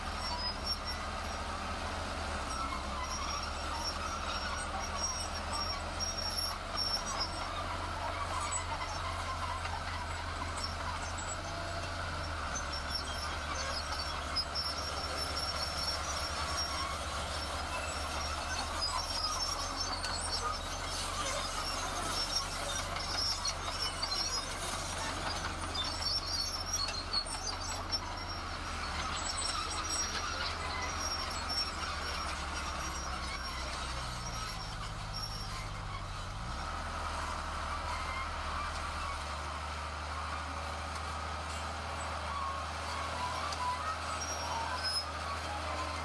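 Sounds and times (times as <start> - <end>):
diesel machinery engine running: 0.0 - 46.0
high metallic squeaking: 2.5 - 39.3.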